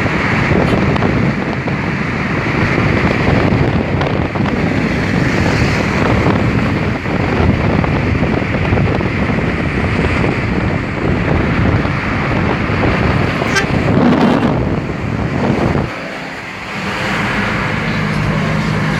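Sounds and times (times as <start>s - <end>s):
car wind and road noise: 0.0s - 18.9s
wind buffeting microphone: 0.0s - 18.9s.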